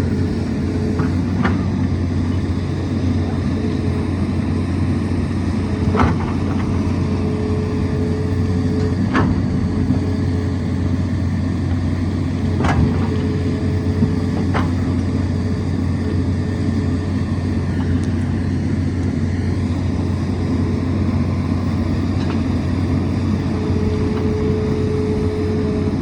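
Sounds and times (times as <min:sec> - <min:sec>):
diesel engine running: 0:00.0 - 0:26.0
faint hydraulic whine: 0:00.0 - 0:26.0.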